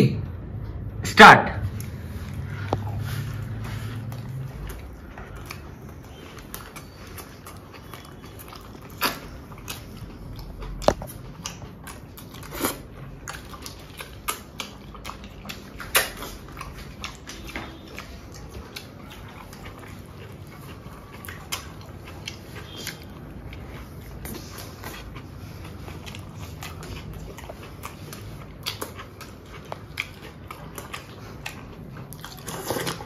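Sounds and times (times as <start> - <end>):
person chewing a burger: 1.7 - 33.0.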